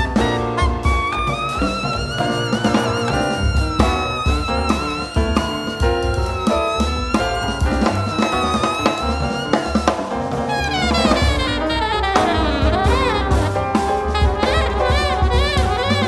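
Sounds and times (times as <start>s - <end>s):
double bass: 0.0s - 16.0s
drum kit: 0.0s - 16.0s
piano: 0.0s - 16.0s
saxophones: 0.0s - 16.0s.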